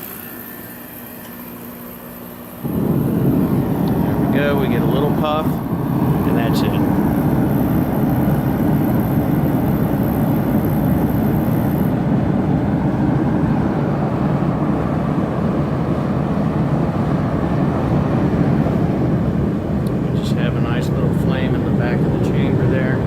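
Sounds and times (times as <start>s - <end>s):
burner fan and flame rushing: 0.0s - 23.0s
faint high whine: 0.0s - 23.0s.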